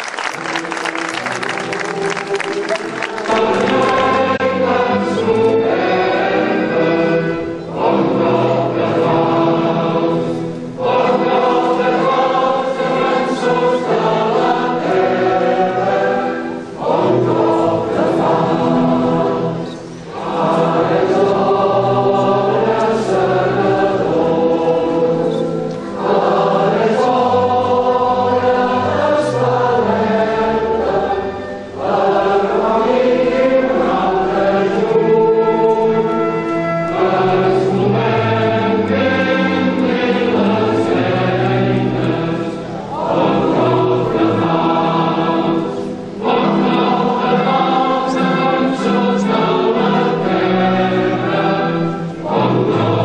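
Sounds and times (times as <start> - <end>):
choir singing: 0.0 - 53.0.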